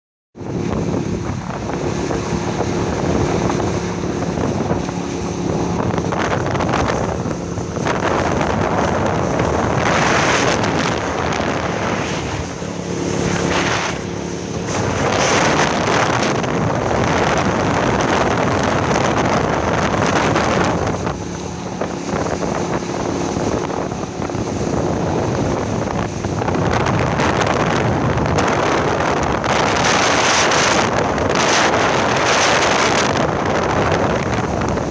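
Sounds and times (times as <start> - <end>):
motorboat engine humming: 0.4 - 34.9
water noise: 0.4 - 34.9
wind on microphone: 0.4 - 34.9.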